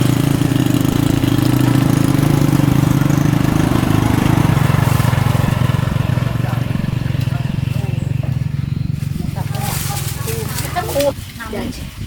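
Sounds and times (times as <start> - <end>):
small engine running: 0.0 - 11.2.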